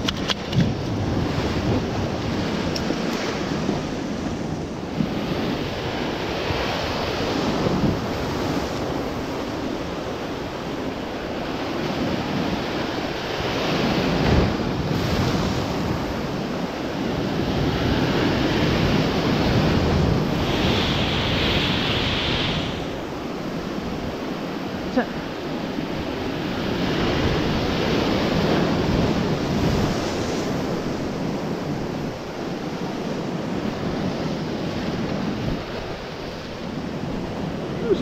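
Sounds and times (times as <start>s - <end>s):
wind on microphone: 0.0s - 38.0s.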